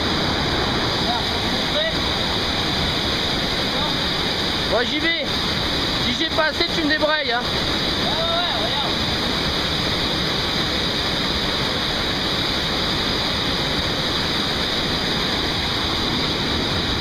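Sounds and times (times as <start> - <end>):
waterfall crashing into gorge: 0.0 - 17.0.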